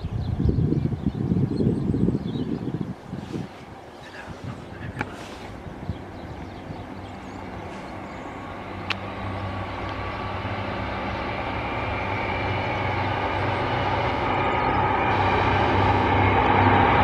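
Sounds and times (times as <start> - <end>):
diesel train engine hum: 0.0 - 17.0
wheels on rails: 3.3 - 17.0.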